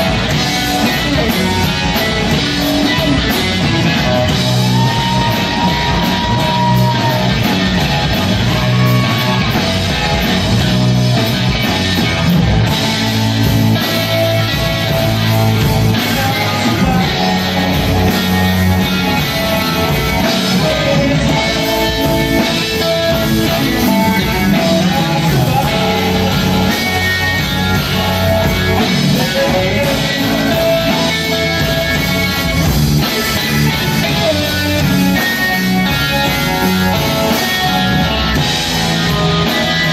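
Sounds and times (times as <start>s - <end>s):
bending guitar melody line: 0.0s - 39.9s
drum kit: 0.0s - 39.9s
electric guitars: 0.0s - 39.9s.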